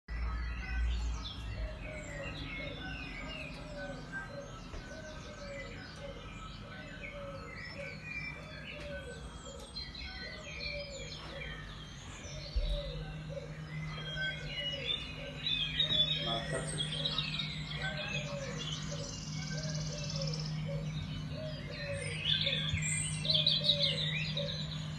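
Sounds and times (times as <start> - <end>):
birds chirping and calling: 0.1 - 24.9
steady low hum: 0.1 - 24.9.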